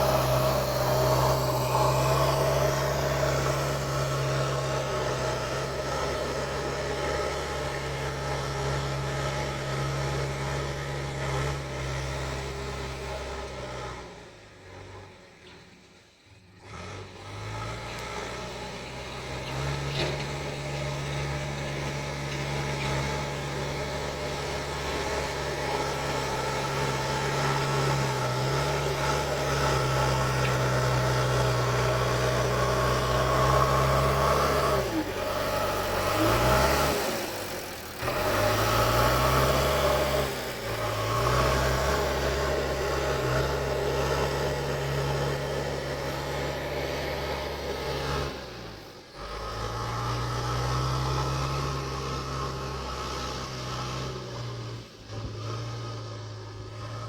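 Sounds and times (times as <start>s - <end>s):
diesel engine running: 0.0s - 15.3s, 16.6s - 57.0s.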